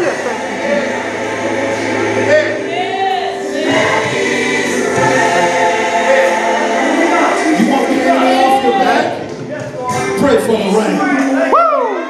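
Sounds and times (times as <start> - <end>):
sustained accompaniment: 0.0 - 11.4
gospel choir singing: 0.0 - 12.0.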